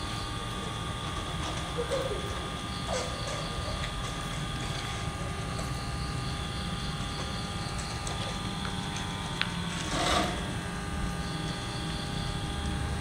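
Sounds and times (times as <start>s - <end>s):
electric motors whirring: 0.0s - 13.0s.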